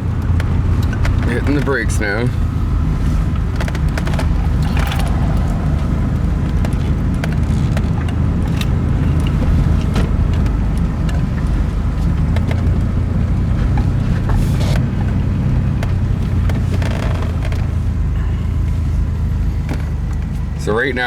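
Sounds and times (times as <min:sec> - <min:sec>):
engine and road rumble: 0:00.0 - 0:21.0
light clicks and rattles: 0:00.1 - 0:18.1.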